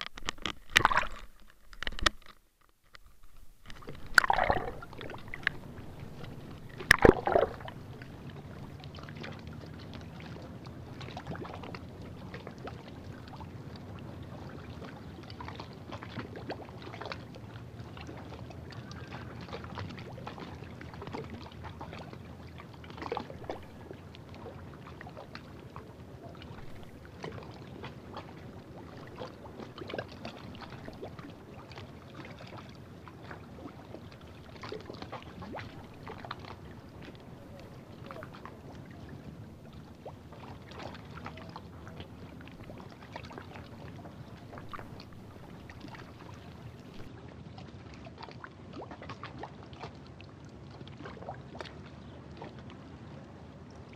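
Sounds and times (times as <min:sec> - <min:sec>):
paddle splashes and swirls: 0:00.0 - 0:53.9
water noise: 0:00.0 - 0:53.9.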